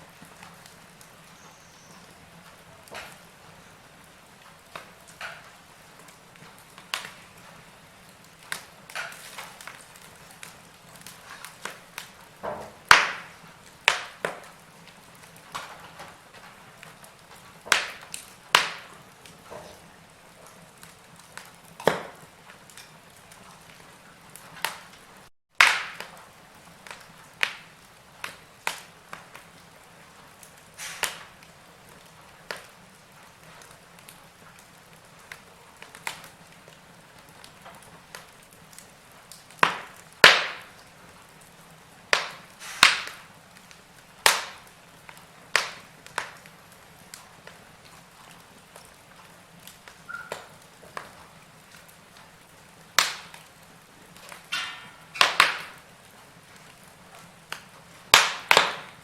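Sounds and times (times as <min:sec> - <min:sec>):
faint steady hiss: 0:00.0 - 0:59.0
wood fire crackling and popping: 0:00.0 - 0:59.0.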